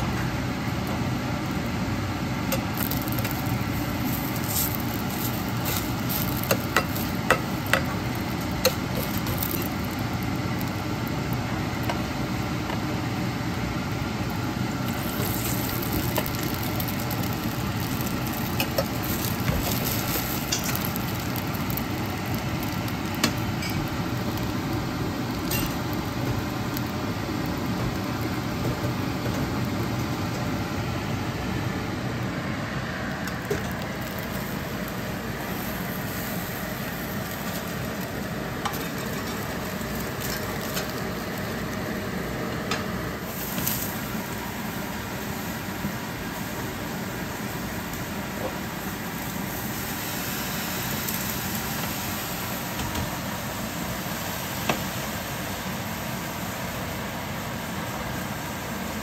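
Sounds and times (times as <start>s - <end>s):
crepe sizzling in pan: 0.0s - 59.0s.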